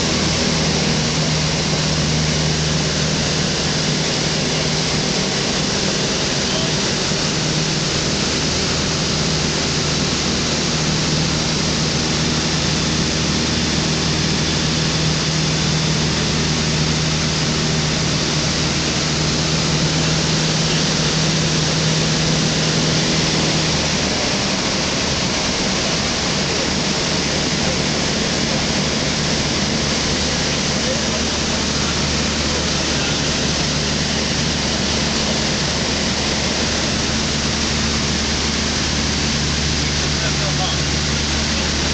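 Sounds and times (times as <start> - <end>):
aircraft engine droning: 0.0 - 41.9.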